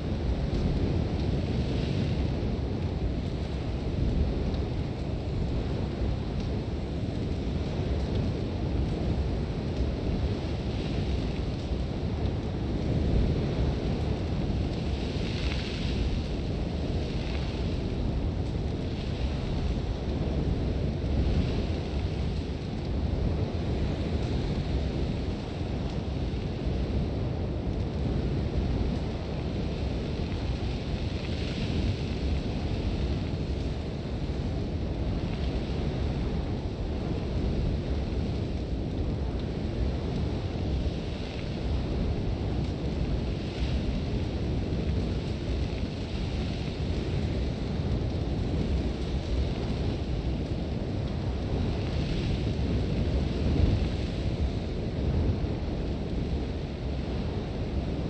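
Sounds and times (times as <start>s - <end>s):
wind blowing hard: 0.0s - 58.0s.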